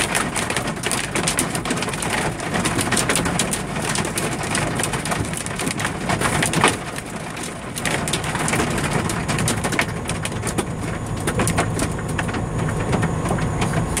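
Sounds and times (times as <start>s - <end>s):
hailstones striking a truck: 0.0s - 14.0s.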